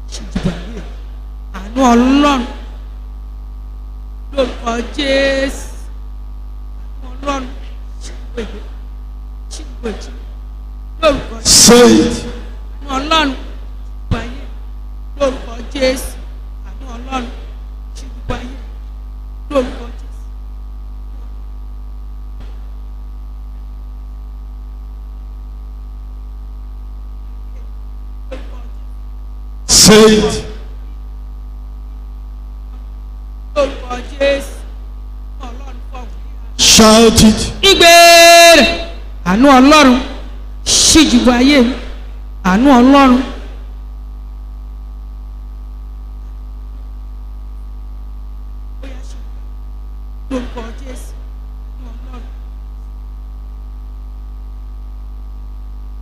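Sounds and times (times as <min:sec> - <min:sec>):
electrical mains hum and buzz: 0:00.0 - 0:56.0.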